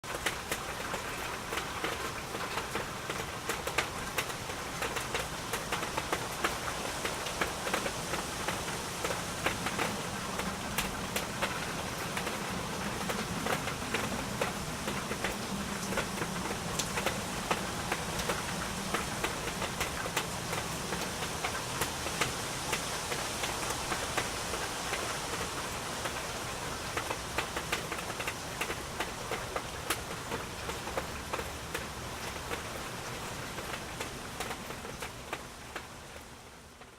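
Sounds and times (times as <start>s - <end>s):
rain pattering on a surface: 0.0s - 36.9s.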